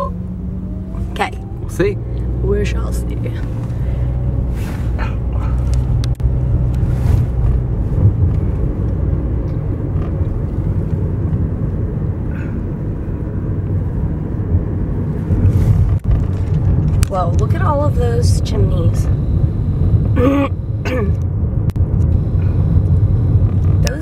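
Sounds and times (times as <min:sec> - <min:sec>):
car engine and road noise inside cabin: 0:00.0 - 0:24.0.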